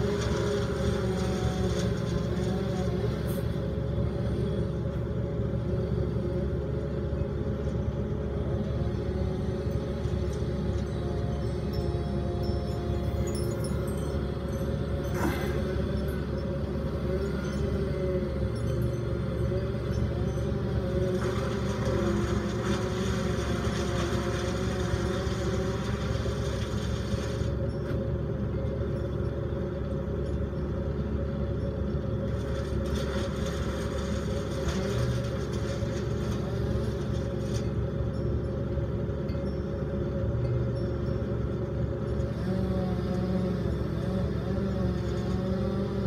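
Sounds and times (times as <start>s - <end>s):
faint wavering tone: 0.0s - 46.0s
heavy engine rumbling: 0.0s - 46.0s.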